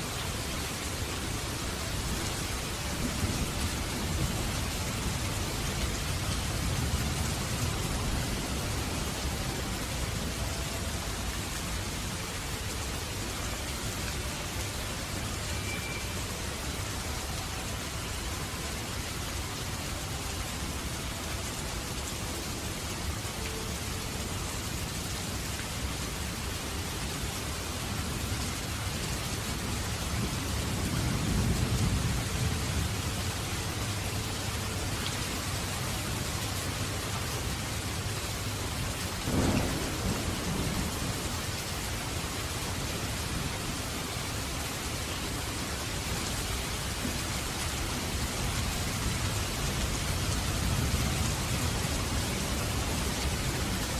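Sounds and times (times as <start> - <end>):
rain-like hiss: 0.0 - 53.9.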